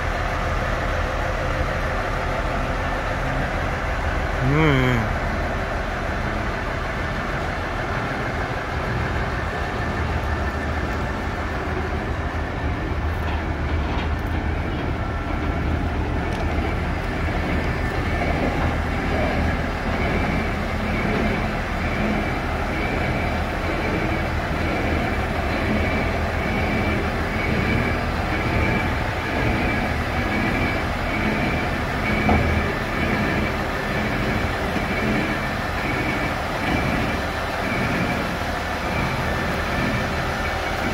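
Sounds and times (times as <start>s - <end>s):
railcar low hum and rumble: 0.0s - 40.9s.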